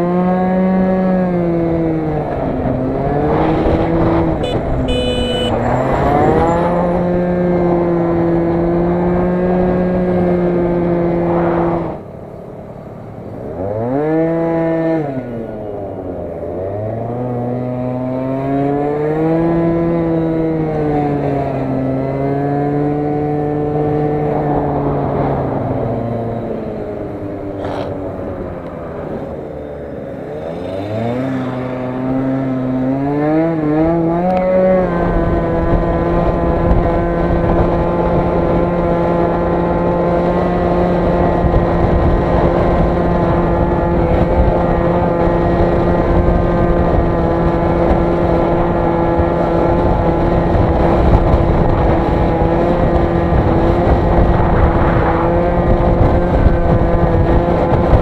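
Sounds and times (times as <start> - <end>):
scooter engine revving: 0.0 - 12.0, 13.5 - 58.0.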